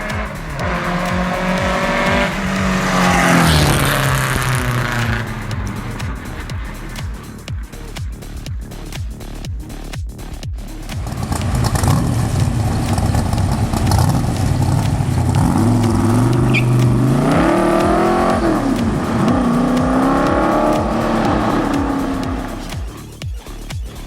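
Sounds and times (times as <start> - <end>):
car engine revving: 0.0 - 8.9, 10.7 - 23.1.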